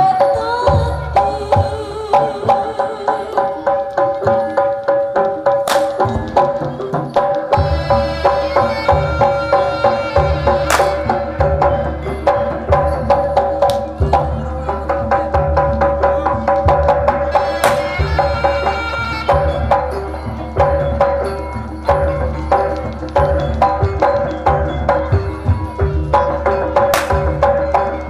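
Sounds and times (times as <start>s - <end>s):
gamelan music: 0.0s - 28.0s
hand drum beats: 0.0s - 28.0s.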